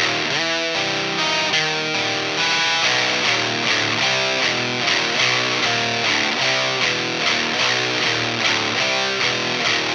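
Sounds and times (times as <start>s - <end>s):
overdriven electric guitar: 0.0s - 9.9s.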